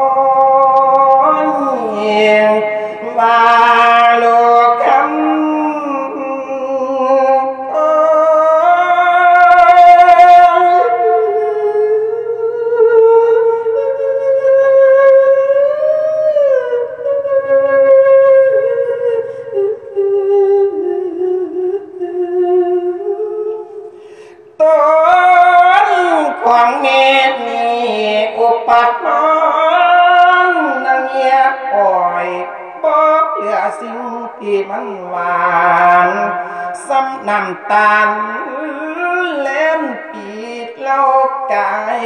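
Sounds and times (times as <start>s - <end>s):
man singing into a microphone: 0.0s - 42.0s.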